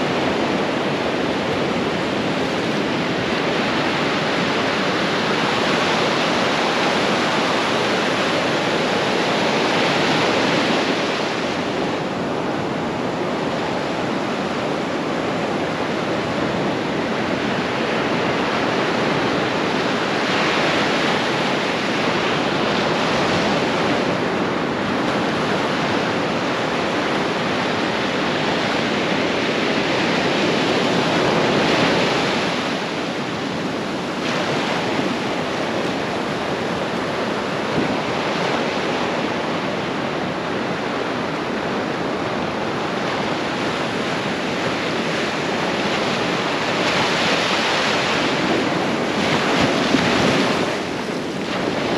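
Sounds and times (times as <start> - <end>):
ocean surf breaking on beach: 0.0 - 51.9.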